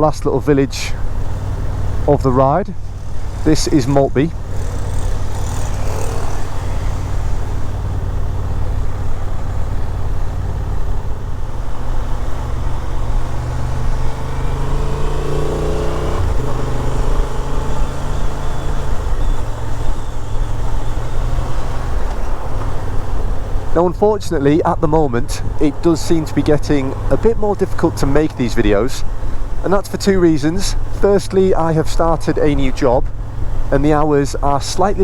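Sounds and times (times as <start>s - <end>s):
motorcycle engine running: 0.2s - 35.0s.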